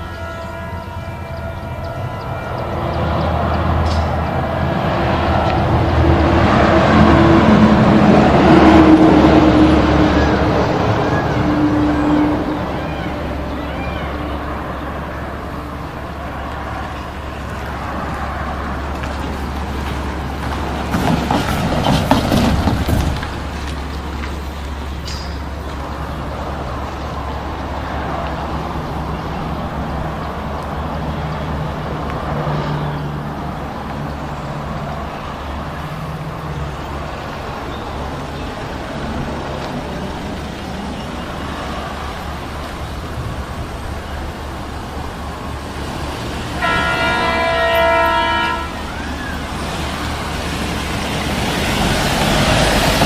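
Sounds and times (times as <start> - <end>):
diesel locomotive engine droning: 0.0 - 53.0.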